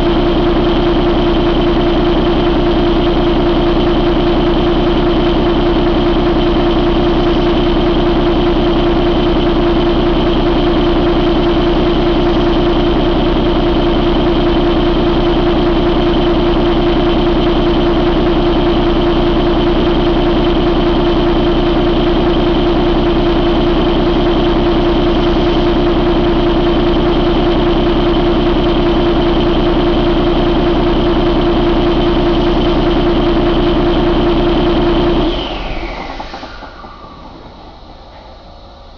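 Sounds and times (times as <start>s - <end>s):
high whine: 0.0s - 38.9s.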